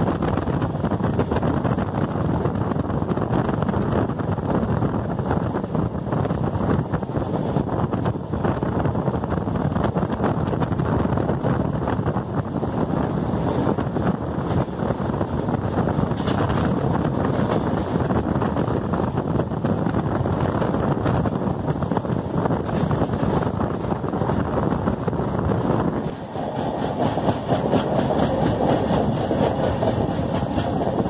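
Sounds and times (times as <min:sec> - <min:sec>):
train wheels on rails: 0:00.0 - 0:31.0
wind on microphone: 0:00.0 - 0:31.0.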